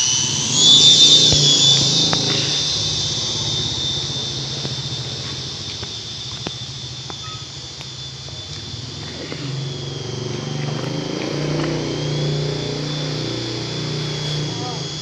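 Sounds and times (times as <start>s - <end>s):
high-pitched motor whine: 0.0s - 15.0s
low pulsing hum: 0.0s - 15.0s.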